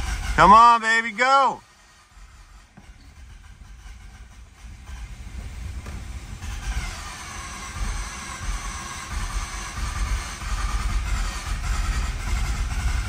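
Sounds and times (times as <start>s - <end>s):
starter cranking engine: 0.0s - 0.7s, 2.3s - 13.0s
whine: 0.0s - 13.0s.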